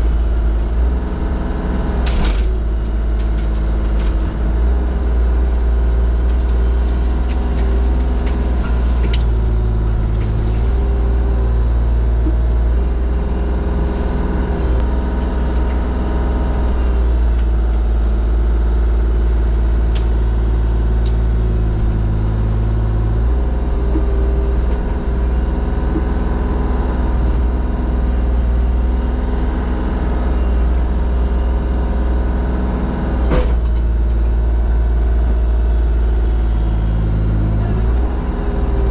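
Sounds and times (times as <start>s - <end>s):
heavy diesel engine drone: 0.0s - 38.9s.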